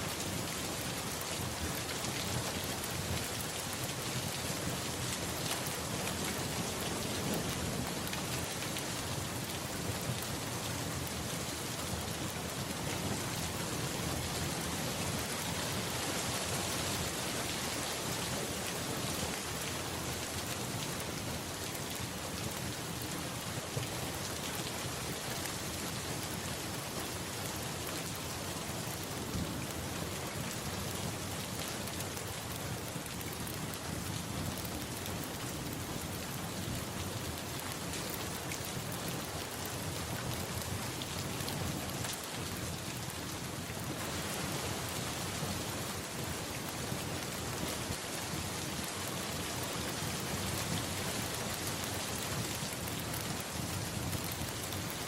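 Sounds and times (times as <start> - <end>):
rain pouring: 0.0 - 55.0.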